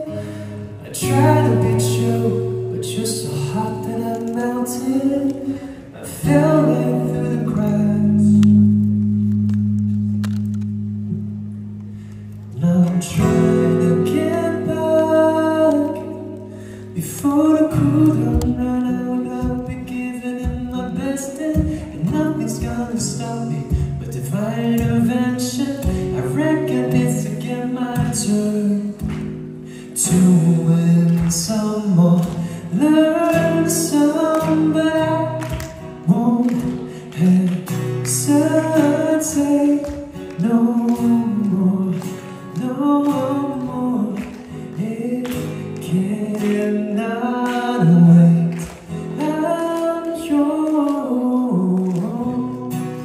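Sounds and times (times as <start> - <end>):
man singing into a microphone: 0.0 - 8.9, 12.5 - 53.0
strummed acoustic guitar: 0.0 - 53.0.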